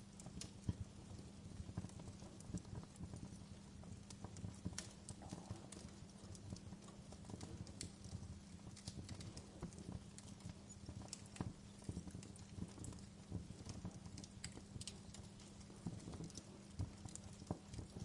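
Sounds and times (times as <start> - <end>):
low rumble of flames: 0.0 - 18.0
wood crackling and popping: 0.0 - 18.0.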